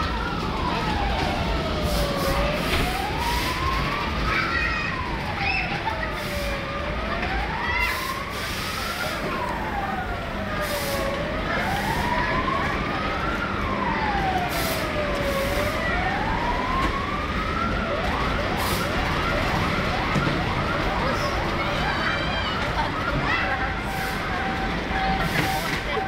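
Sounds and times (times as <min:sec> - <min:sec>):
electronic wailing siren: 0:00.0 - 0:26.0
steady background din: 0:00.0 - 0:26.0.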